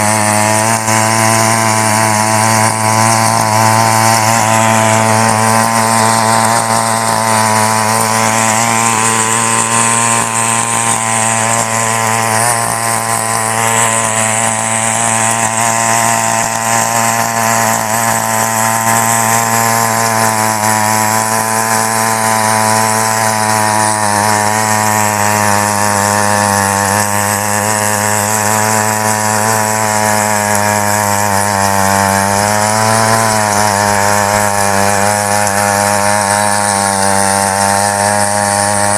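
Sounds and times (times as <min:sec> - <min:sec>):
rotary tines tilling soil: 0:00.0 - 0:38.9
small petrol engine running: 0:00.0 - 0:38.9.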